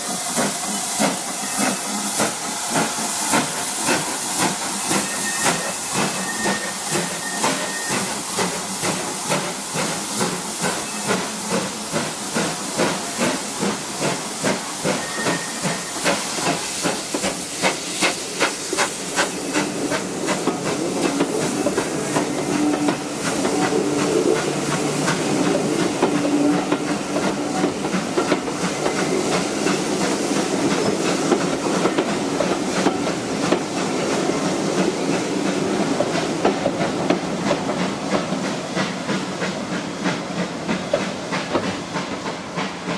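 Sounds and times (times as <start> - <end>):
hissing steam: 0.0 - 42.9
steam locomotive exhaust beats: 0.0 - 42.9.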